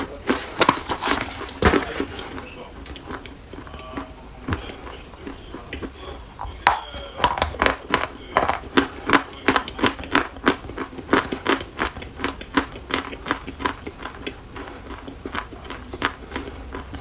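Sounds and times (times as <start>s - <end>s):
chalk being chewed crunching: 0.0s - 17.0s.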